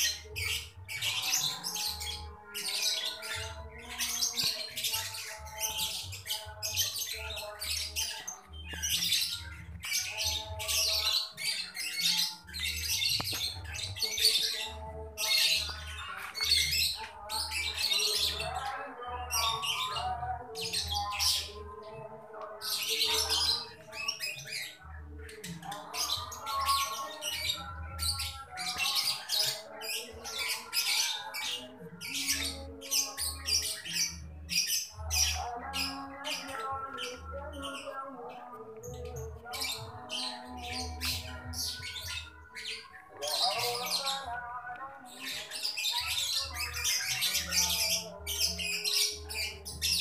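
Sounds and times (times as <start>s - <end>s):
birds chirping and squawking: 0.0s - 50.0s.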